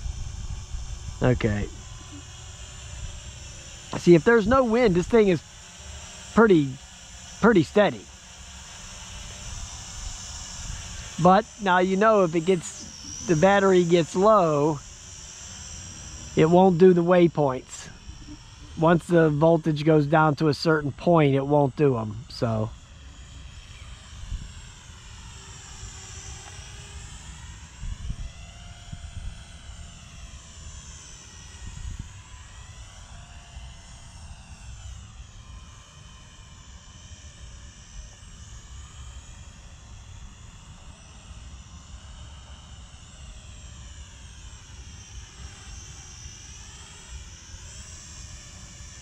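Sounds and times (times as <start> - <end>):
drone propeller whine: 0.0 - 49.0.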